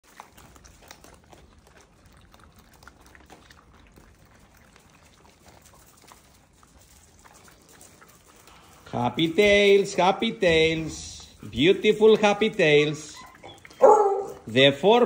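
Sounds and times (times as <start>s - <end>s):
puppies crunching kibble: 0.0s - 15.0s
wet chewing and smacking: 0.0s - 15.0s.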